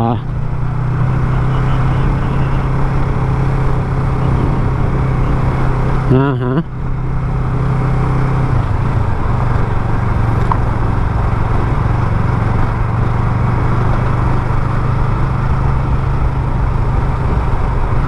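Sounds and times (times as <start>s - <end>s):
motorcycle engine running steadily: 0.0s - 18.0s
road noise: 0.0s - 18.0s
rushing wind: 0.0s - 18.0s.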